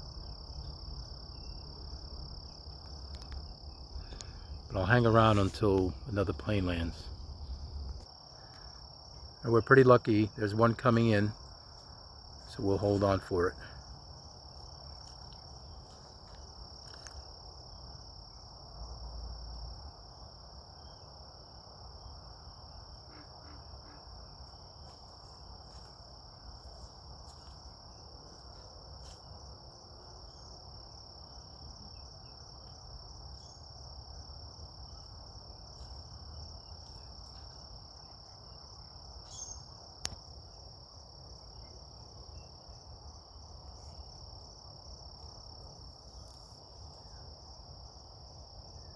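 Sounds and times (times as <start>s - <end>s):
insects chirping chorus: 0.0s - 48.9s.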